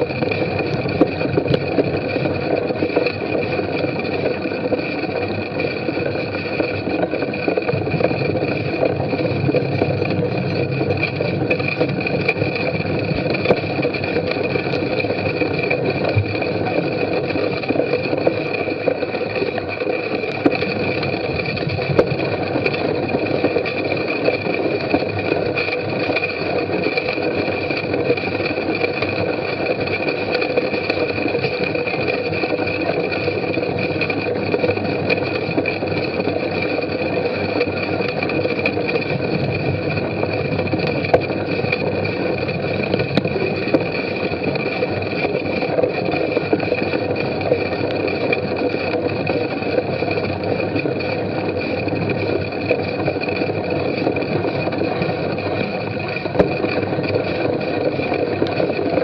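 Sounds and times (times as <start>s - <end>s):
bike rattling: 0.0s - 59.0s
bike tyre and drivetrain noise: 0.0s - 59.0s.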